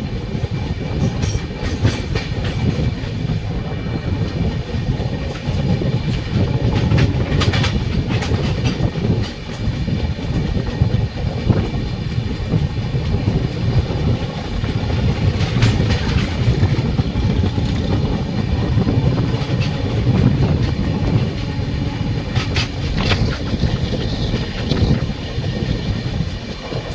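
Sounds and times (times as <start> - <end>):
train wheels rumbling on rails: 0.0 - 26.9
wheels clattering over rail joints: 3.9 - 26.9.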